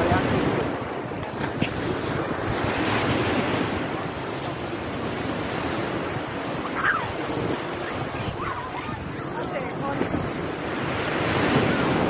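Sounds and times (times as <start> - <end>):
surf on beach: 0.0 - 12.0
wind on microphone: 0.0 - 12.0.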